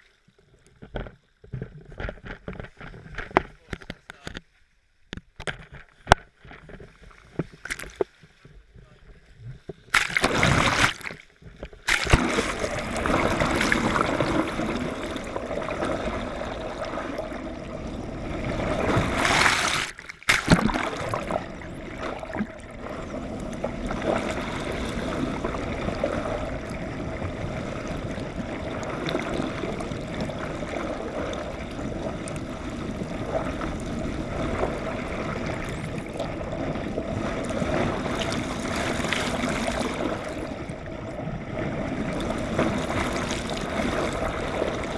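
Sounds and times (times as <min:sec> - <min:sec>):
water churning underwater: 0:05.7 - 0:44.9.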